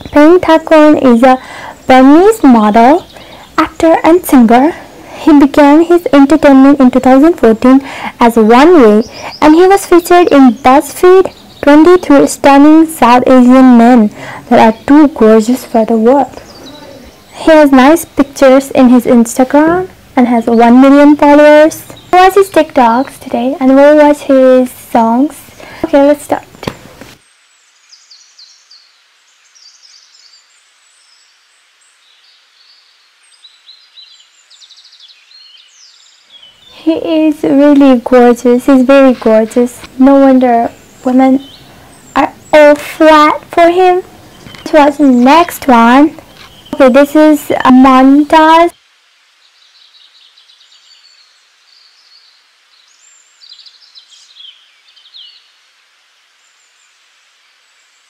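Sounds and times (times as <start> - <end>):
small birds twittering: 0.0 - 58.0
steady hiss: 0.0 - 58.0.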